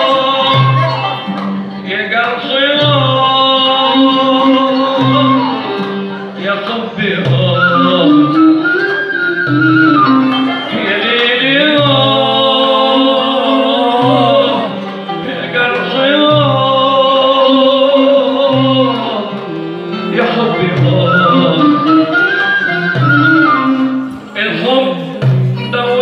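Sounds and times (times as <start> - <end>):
goblet drum: 0.0 - 1.8, 2.8 - 26.0
man singing into a microphone: 0.0 - 26.0
violin: 0.0 - 26.0.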